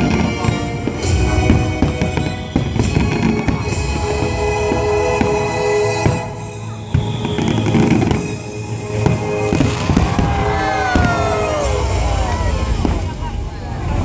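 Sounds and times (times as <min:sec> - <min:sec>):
show music with drum beat: 0:00.0 - 0:13.2
fireworks bursting: 0:00.0 - 0:14.0.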